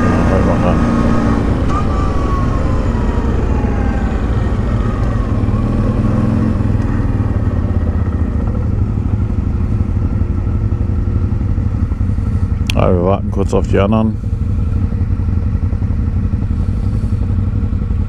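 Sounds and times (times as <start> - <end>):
quad bike engine idling: 1.4 - 18.0.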